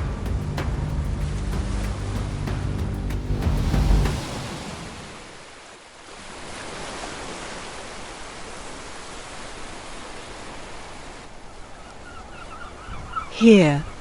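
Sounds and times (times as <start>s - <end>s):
sea surf rushing: 0.0s - 11.3s.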